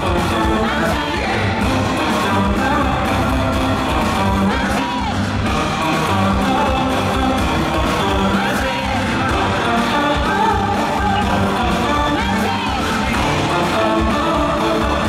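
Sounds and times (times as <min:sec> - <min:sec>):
audience shouting along: 0:00.0 - 0:15.0
live pop-rock band: 0:00.0 - 0:15.0
person singing: 0:00.0 - 0:15.0.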